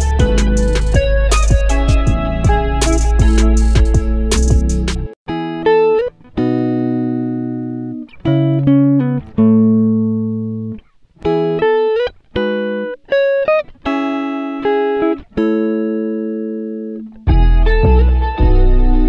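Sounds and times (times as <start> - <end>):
plucked guitar notes and chords: 0.0 - 19.0.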